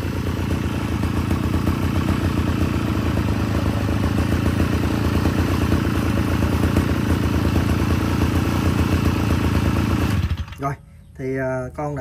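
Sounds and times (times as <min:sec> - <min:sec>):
brush cutter engine idling: 0:00.0 - 0:10.8.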